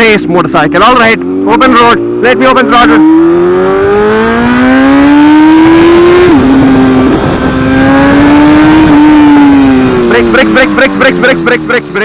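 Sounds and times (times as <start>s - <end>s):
motorcycle engine at full throttle: 0.0s - 12.0s.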